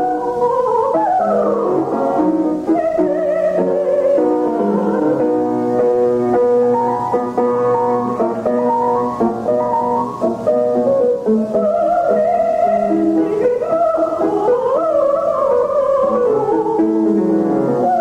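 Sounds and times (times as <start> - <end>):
soprano singing opera: 0.0 - 7.2, 9.4 - 18.0
piano accompaniment: 0.0 - 18.0.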